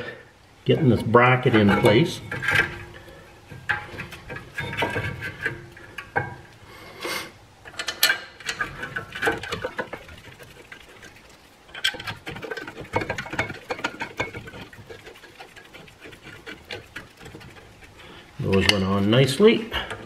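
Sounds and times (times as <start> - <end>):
metal clicks taps and scrapes: 1.4 - 6.6, 7.6 - 19.2, 19.8 - 20.0.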